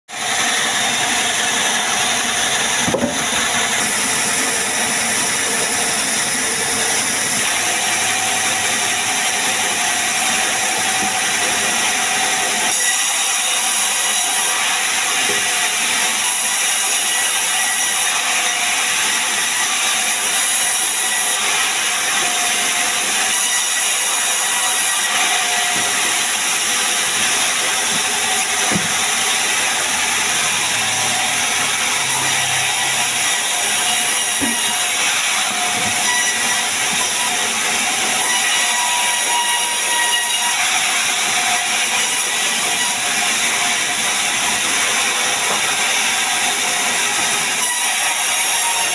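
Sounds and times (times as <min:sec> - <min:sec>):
band saw cutting log: 0:00.1 - 0:48.9.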